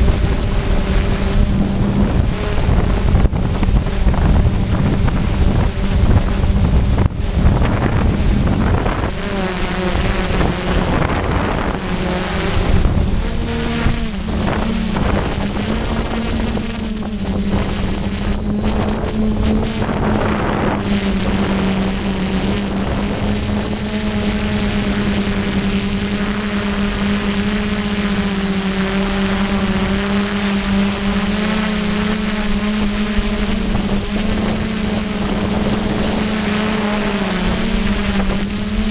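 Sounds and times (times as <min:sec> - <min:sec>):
drone propellers buzzing: 0:00.0 - 0:38.9
wind on microphone: 0:00.0 - 0:38.9.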